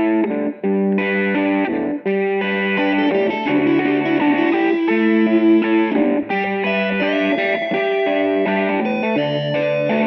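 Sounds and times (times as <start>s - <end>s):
electric guitar with effects: 0.0s - 10.0s.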